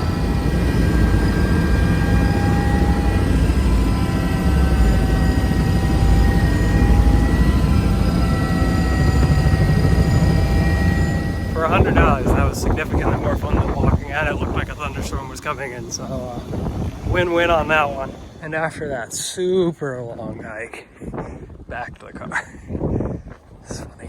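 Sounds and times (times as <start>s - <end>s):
high engine whine: 0.0s - 20.6s
helicopter rotor rumble: 0.0s - 24.0s.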